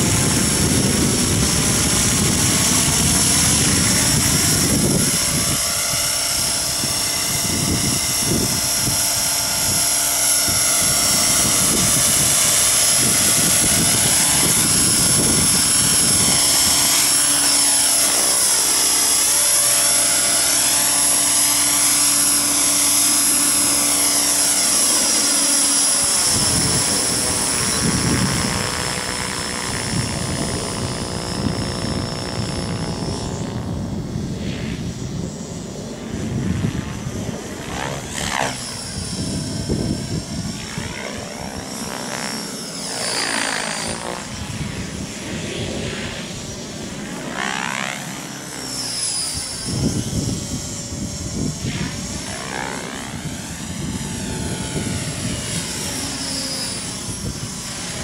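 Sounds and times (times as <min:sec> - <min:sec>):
electric motor high whine: 0:00.0 - 0:58.0
rotor blades rushing: 0:00.0 - 0:58.0.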